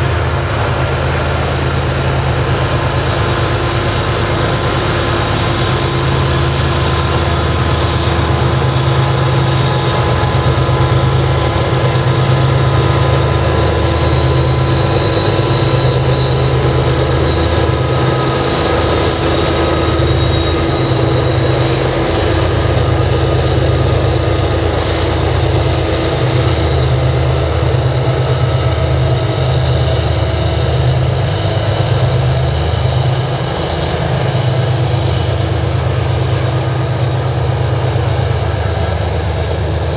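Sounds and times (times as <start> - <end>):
diesel locomotive whine: 0.0 - 39.9
locomotive engine drone: 0.0 - 39.9
train cars rolling: 0.0 - 39.9.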